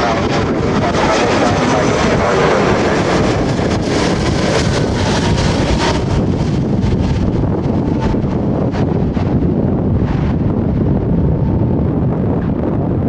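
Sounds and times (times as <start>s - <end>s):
jet engines rushing: 0.0s - 13.0s
wind buffeting microphone: 0.0s - 13.0s.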